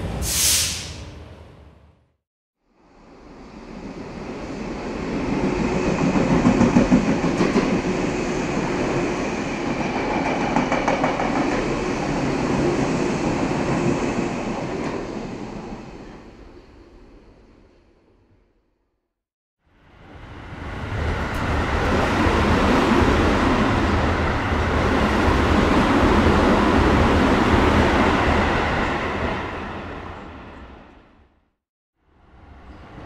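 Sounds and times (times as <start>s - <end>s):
train rumbling on rails: 2.8s - 17.9s, 19.7s - 31.3s.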